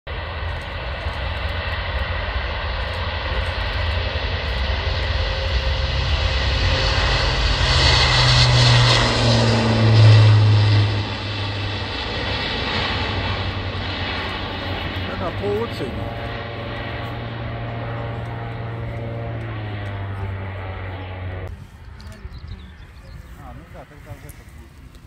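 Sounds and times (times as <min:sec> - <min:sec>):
turboprop aircraft taking off: 0:00.1 - 0:25.0.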